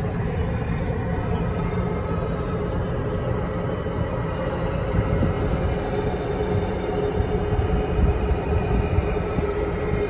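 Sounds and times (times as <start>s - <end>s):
airplane cabin roar: 0.0s - 10.0s
steady hum: 0.0s - 10.0s.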